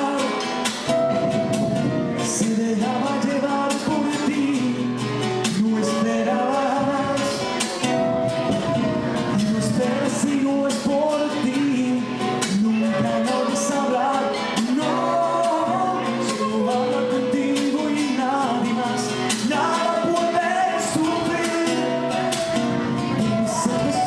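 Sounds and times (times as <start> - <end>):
plucked acoustic guitar: 0.0 - 24.0
sustained melody line: 0.0 - 24.0.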